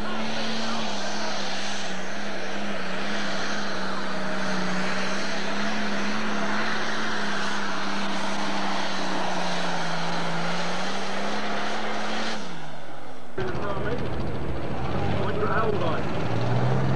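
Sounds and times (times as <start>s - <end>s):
tractor diesel engine under load: 0.0s - 16.9s.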